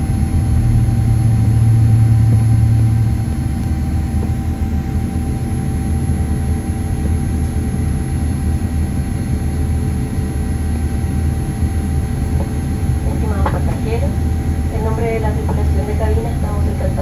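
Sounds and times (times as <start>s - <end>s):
airplane cabin engine rumble: 0.0s - 17.0s
faint steady tones: 0.0s - 17.0s.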